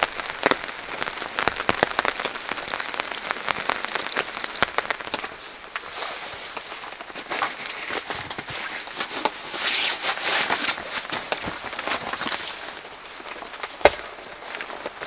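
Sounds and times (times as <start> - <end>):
nylon fabric rustling and crinkling: 0.0 - 15.0.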